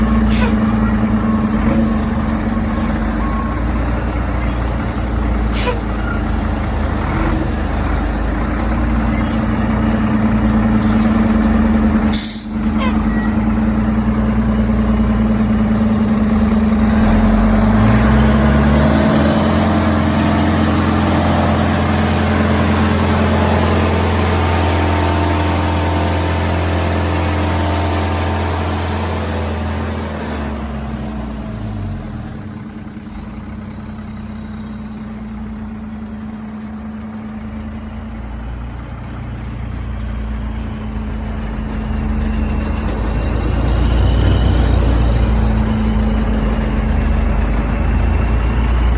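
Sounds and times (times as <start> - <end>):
truck engine revving and idling: 0.0 - 48.9.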